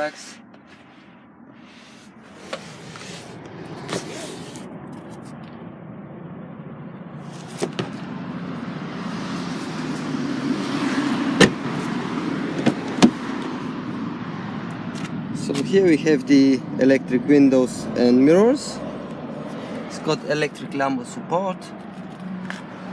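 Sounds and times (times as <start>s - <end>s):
motor vehicle rumble: 0.0s - 20.4s.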